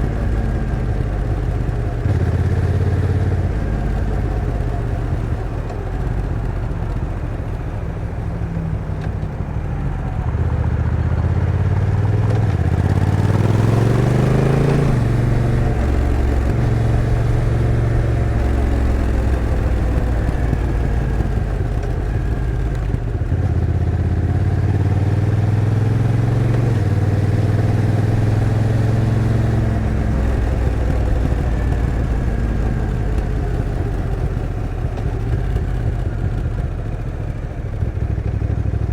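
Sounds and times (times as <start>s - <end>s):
motorcycle engine revving and shifting: 0.0s - 38.9s.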